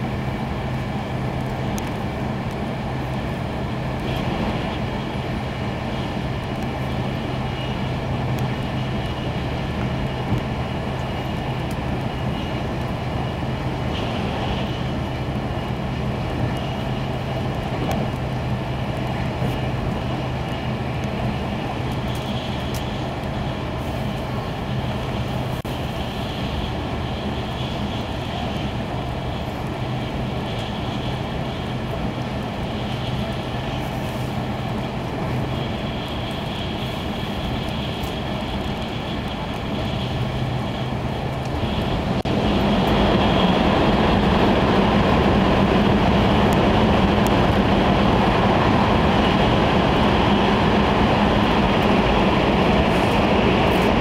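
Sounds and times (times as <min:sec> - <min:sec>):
train cabin rumble with low hum: 0:00.0 - 0:54.0.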